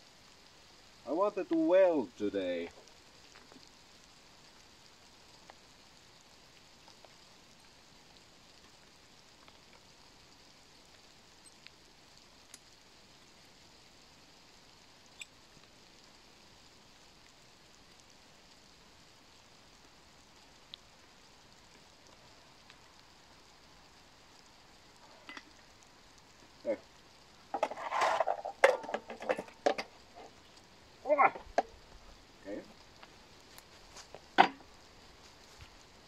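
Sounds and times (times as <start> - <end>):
light rain patter: 0.0 - 36.0.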